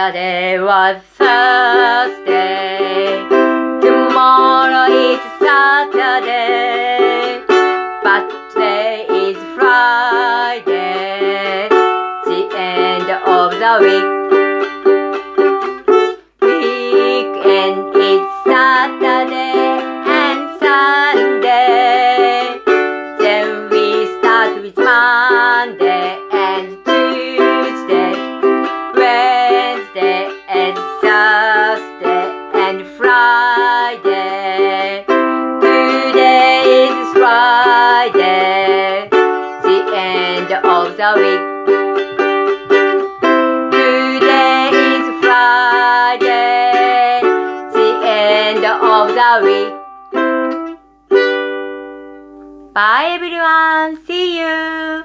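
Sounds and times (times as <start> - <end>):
person humming melody: 0.0 - 50.8
ukulele strumming: 0.0 - 55.0.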